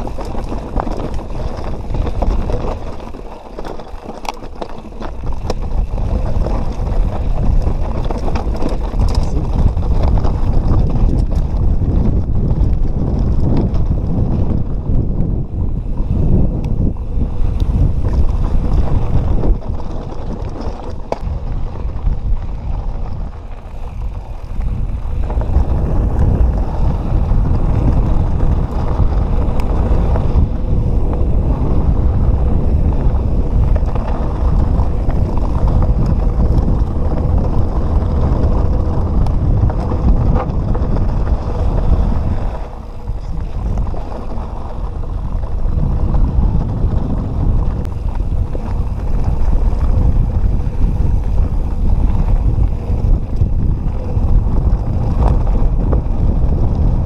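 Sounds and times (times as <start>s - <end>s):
bike clicks and rattles: 0.0s - 57.0s
wind buffeting microphone: 0.0s - 57.0s.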